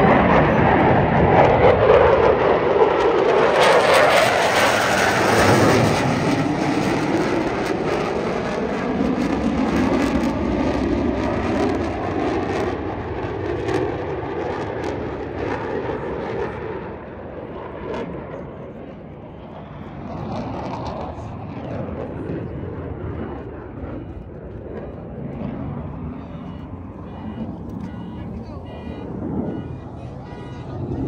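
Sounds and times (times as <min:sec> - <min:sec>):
jet engines passing overhead: 0:00.0 - 0:31.0.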